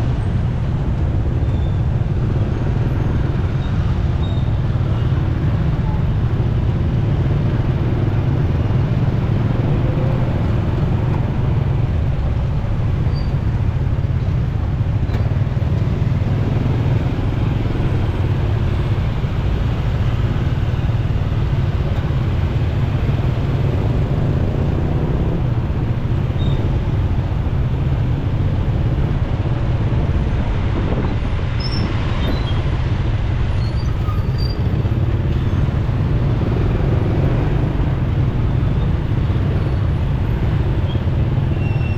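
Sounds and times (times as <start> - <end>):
motorcycle engine and road noise: 0.0 - 41.9
surrounding traffic drone: 0.0 - 41.9
wind rumble on microphone: 0.0 - 41.9.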